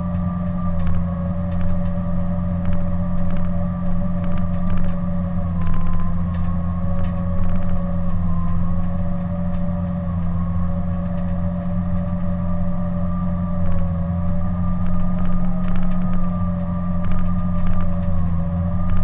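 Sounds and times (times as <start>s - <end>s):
diesel engine drone: 0.0s - 19.0s
steady whine: 0.0s - 19.0s.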